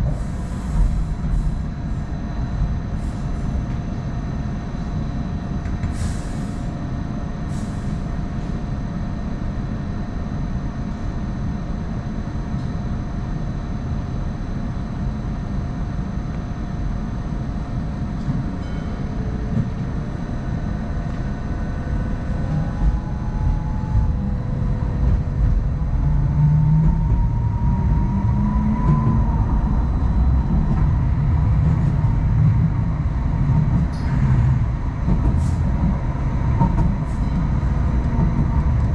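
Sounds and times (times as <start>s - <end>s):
rumble of wheels on track: 0.0s - 38.9s.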